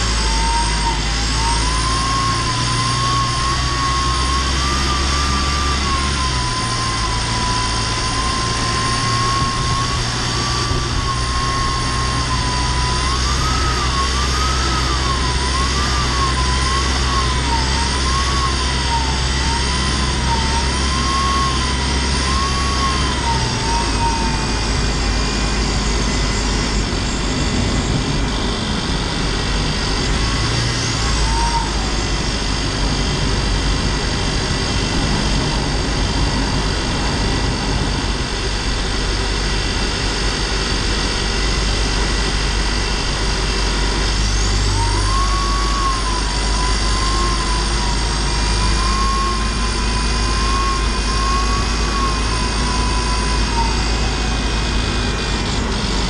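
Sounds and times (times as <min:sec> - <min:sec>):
high wavering turbo whistle: 0:00.0 - 0:56.0
van engine drone: 0:00.0 - 0:56.0.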